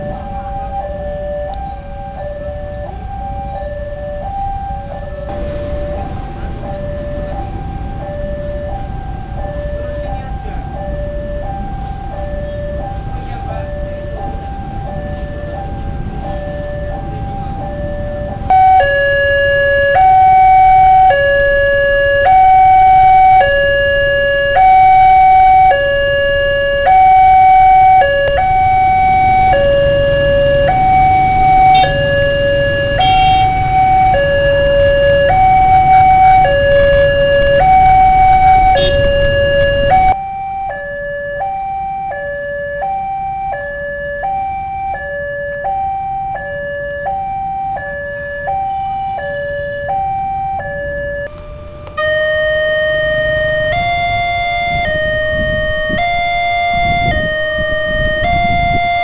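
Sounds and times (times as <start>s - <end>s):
motorcycle traffic rumble: 0.0s - 59.0s
two-tone crossing alarm: 0.0s - 59.0s.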